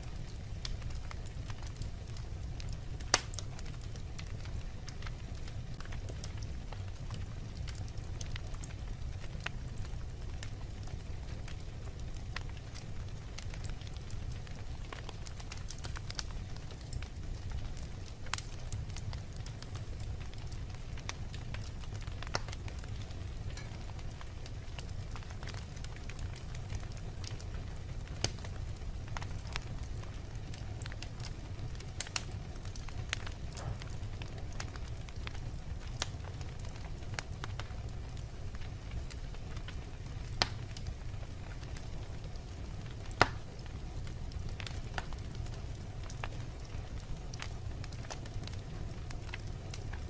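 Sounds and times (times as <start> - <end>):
fire crackles and pops: 0.0 - 50.0
fire rumbling: 0.0 - 50.0.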